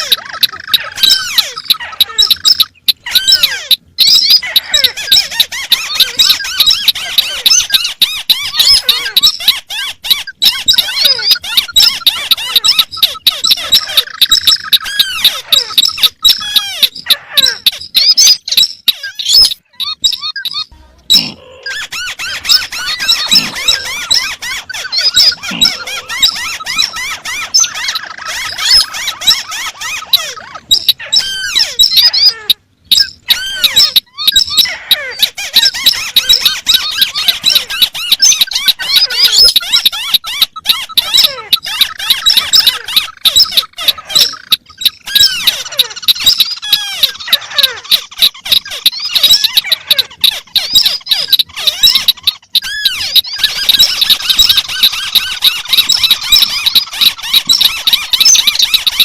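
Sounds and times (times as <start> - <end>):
bird squeaky chirps and trills: 0.0 - 59.0.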